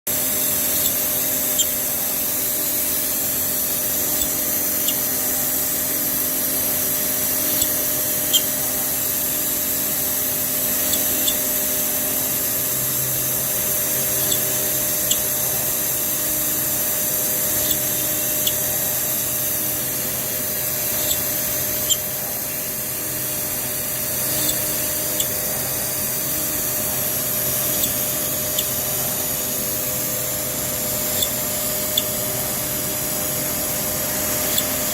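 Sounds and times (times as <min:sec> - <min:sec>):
machine whine with hiss: 0:00.1 - 0:34.9.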